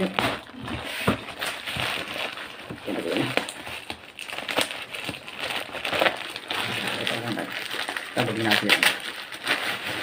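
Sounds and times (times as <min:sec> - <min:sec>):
plastic mailer bag crinkling: 0:00.0 - 0:10.0.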